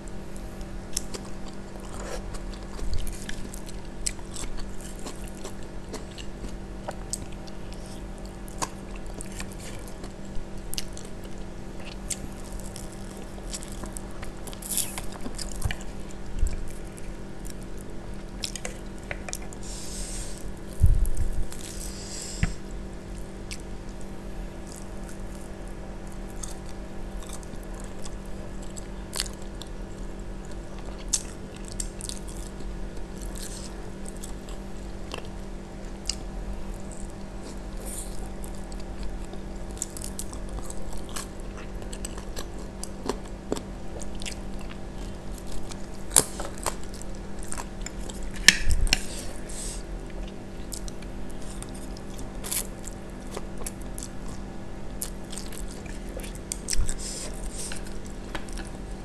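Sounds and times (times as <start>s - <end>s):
chewing and biting: 0.9s - 19.6s, 26.2s - 49.4s, 50.0s - 59.0s.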